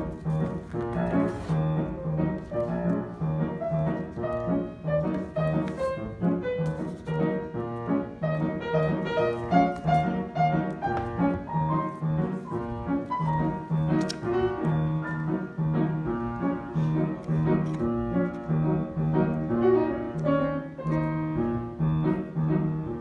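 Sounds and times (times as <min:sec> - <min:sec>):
jazz piano piece: 0:00.0 - 0:23.0.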